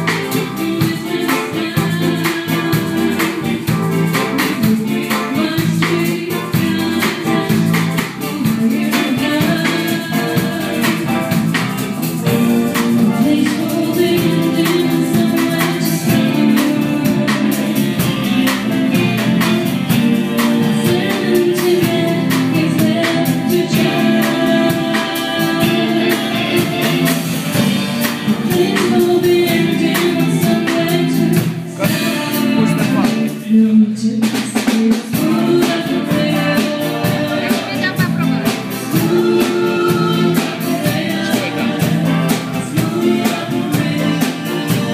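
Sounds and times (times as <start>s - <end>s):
person singing: 0.0s - 11.4s, 12.8s - 44.9s
live pop band playing: 0.0s - 44.9s.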